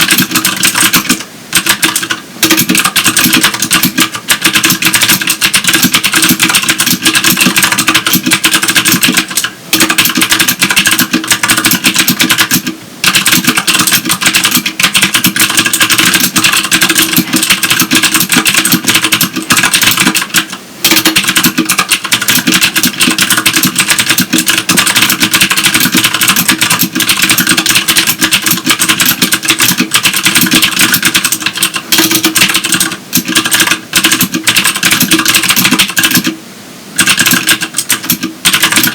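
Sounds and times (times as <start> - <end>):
clicky mechanical keyboard typing: 0.0 - 36.4, 37.0 - 38.9.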